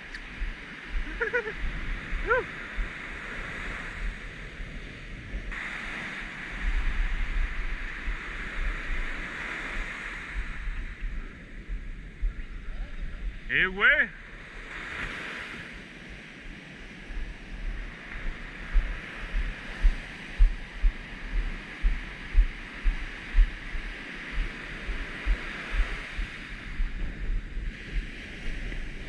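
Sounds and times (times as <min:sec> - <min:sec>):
ocean surf breaking: 0:00.0 - 0:12.2, 0:13.1 - 0:29.0
wind buffeting microphone: 0:00.0 - 0:29.0.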